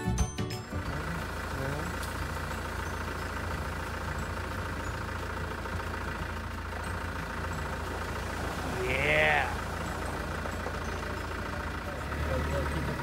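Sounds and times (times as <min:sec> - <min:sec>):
diesel engine droning from inside cab: 0:00.1 - 0:13.0.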